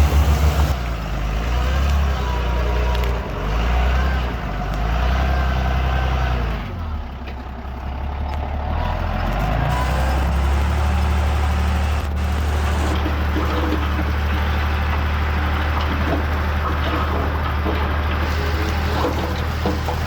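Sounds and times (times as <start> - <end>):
diesel machinery engine running: 0.0 - 20.0.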